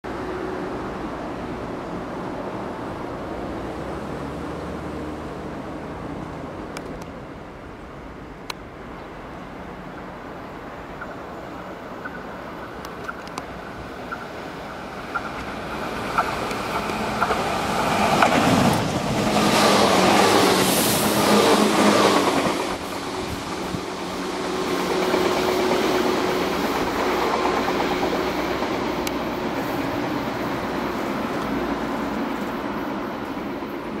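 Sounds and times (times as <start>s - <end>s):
electric train passing: 0.1s - 34.0s.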